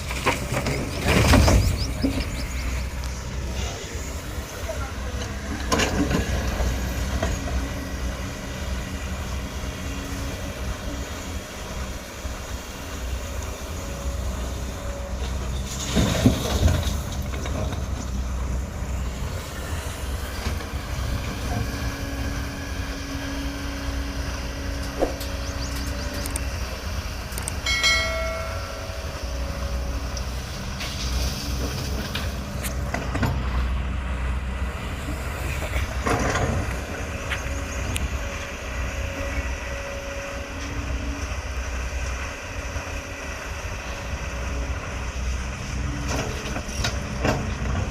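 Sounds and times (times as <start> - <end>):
diesel engine rumbling: 0.0 - 47.9.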